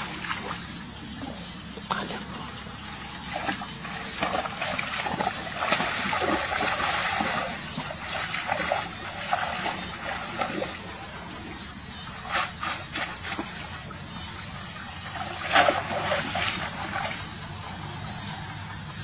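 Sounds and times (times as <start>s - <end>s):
water splashing from wading: 0.0s - 18.0s.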